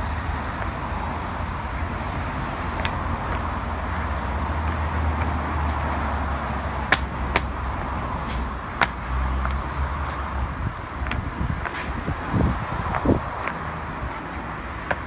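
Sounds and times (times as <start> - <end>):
paving blocks clinking together: 1.6 - 6.2, 6.8 - 8.1, 8.8 - 15.0.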